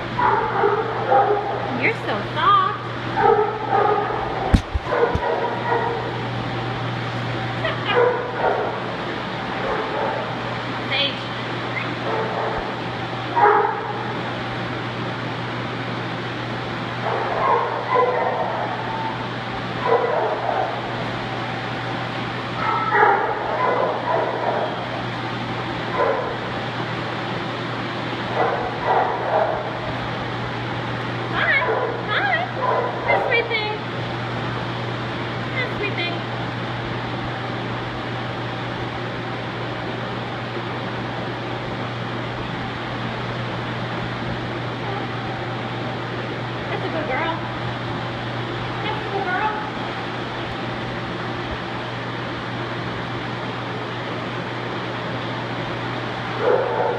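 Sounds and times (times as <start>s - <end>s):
low machine hum: 0.0s - 56.9s.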